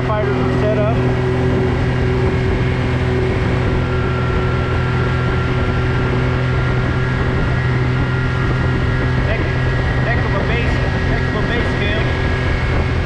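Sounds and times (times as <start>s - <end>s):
utility vehicle engine humming: 0.0s - 13.0s
wind rushing: 0.0s - 13.0s.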